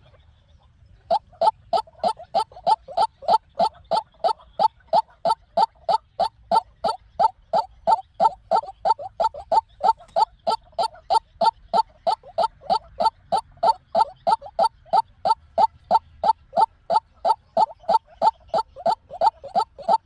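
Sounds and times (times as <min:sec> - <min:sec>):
waterhen calling harsh notes: 0:01.1 - 0:20.0.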